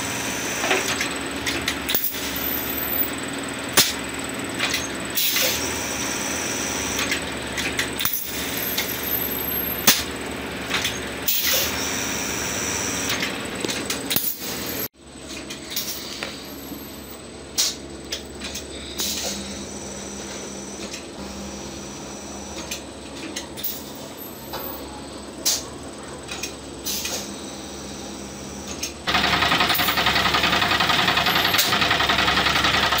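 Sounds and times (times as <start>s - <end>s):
loud rough steady noise: 0.0s - 23.1s, 27.4s - 33.0s
steady machine hum: 0.0s - 33.0s.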